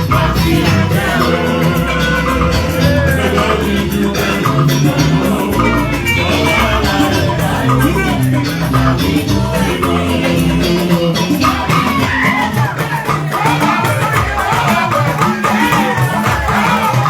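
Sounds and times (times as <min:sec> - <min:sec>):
upbeat music with beat: 0:00.0 - 0:17.0.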